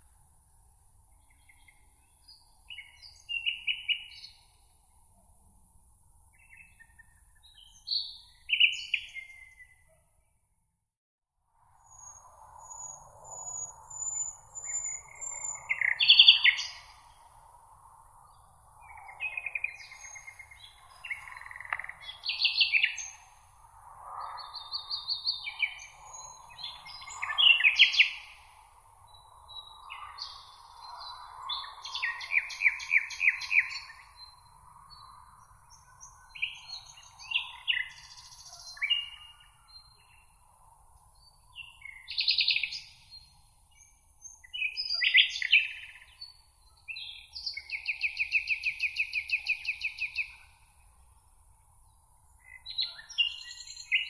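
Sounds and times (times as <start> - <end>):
songbirds singing: 1.1 - 5.0, 6.1 - 10.4, 11.8 - 54.0.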